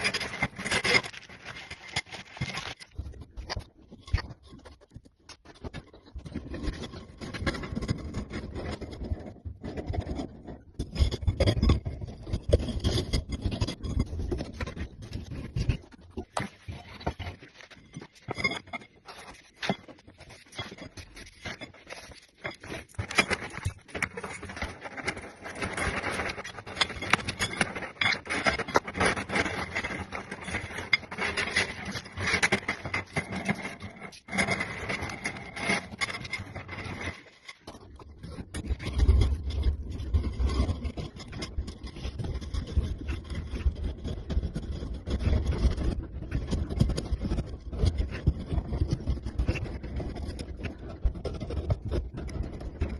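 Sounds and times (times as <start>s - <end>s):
scraping and clicking handling noises: 0.0s - 52.9s.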